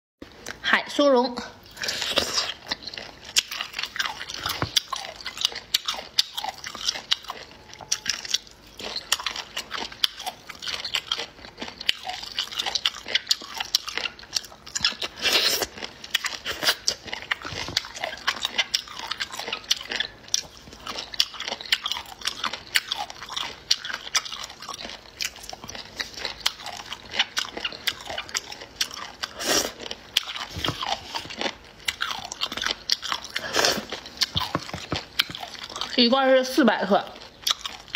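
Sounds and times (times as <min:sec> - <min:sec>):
person chewing crunchy food: 0:01.6 - 0:37.9.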